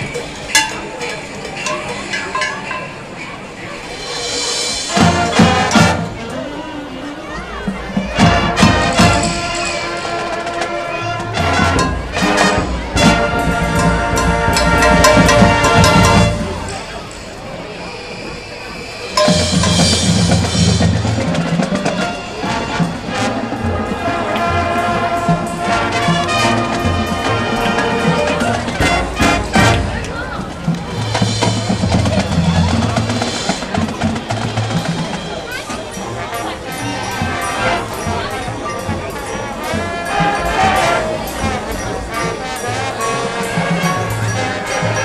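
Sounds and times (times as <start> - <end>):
marching band playing: 0.0 - 45.0
drumline and bass drum hits: 3.9 - 6.3, 7.6 - 17.1, 19.0 - 45.0
brass chords: 4.1 - 17.2, 19.1 - 45.0.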